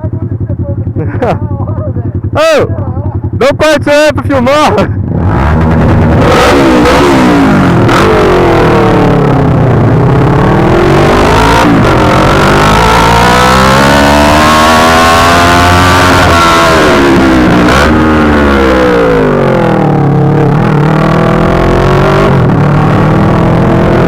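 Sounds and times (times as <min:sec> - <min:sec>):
loud motorcycle engine revving: 0:03.4 - 0:24.0.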